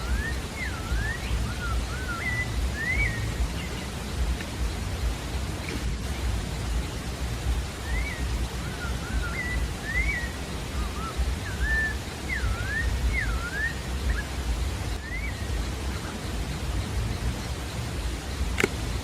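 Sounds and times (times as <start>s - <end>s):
low rumble and hiss: 0.0s - 19.0s
thrush singing whistled notes: 0.0s - 19.0s.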